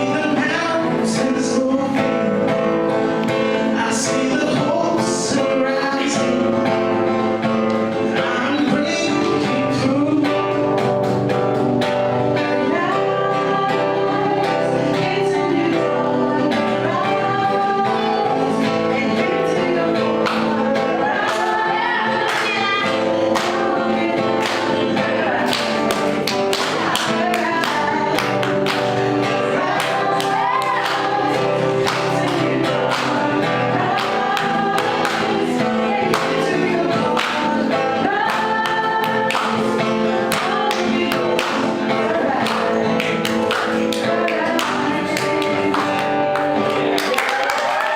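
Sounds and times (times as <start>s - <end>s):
voices singing worship song: 0.0s - 47.9s.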